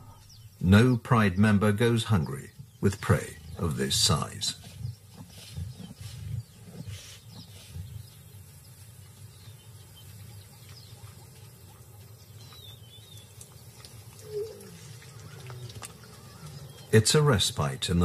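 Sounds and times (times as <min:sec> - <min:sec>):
faint bird chirps: 0:02.2 - 0:17.0.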